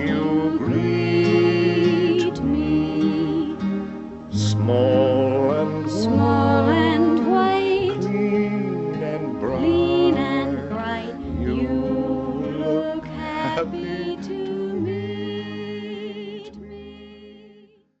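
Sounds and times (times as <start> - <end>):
person singing with vibrato: 0.0 - 17.6
music: 0.0 - 18.0.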